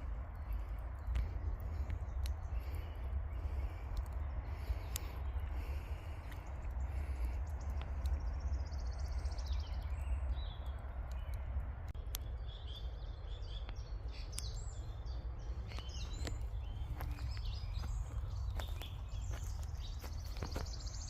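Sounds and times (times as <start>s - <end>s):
campfire crackling: 0.0s - 21.0s
low rumble: 0.0s - 21.0s
songbirds singing: 0.0s - 21.0s.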